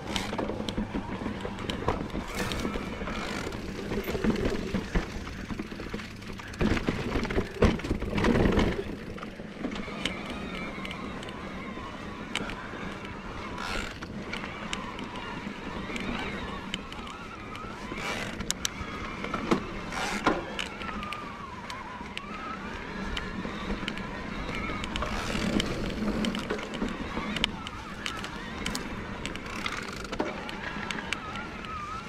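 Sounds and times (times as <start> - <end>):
bike rumbling on dirt trail: 0.0 - 32.0
electric bike motor whining: 0.0 - 32.0.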